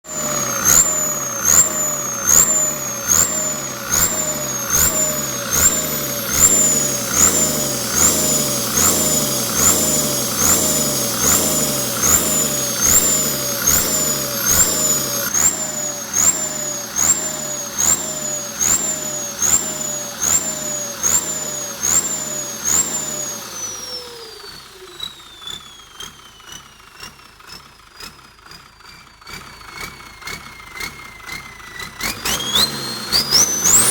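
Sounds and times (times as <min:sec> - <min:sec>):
turbocharger whistling and hissing: 0:00.0 - 0:33.9.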